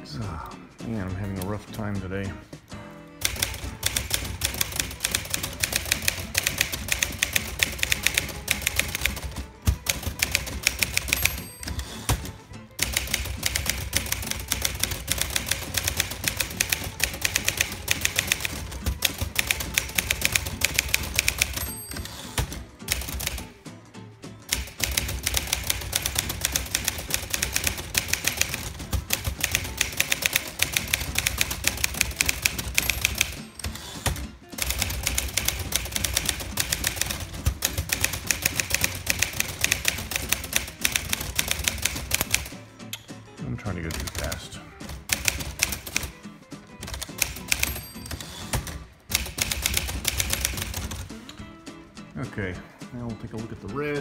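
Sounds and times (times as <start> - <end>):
manual typewriter typing: 3.2 - 23.6, 24.5 - 42.6, 43.7 - 46.2, 46.8 - 51.3.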